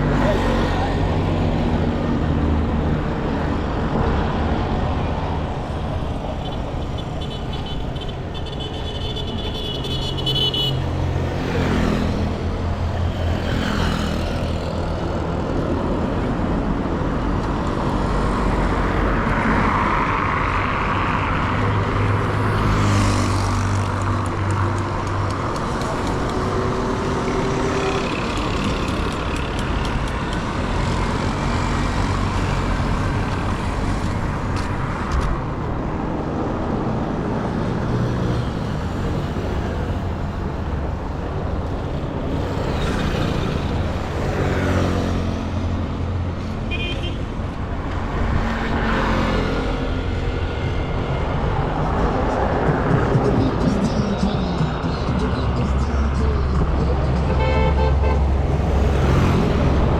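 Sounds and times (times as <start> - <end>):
vehicles driving past: 0.0 - 59.9.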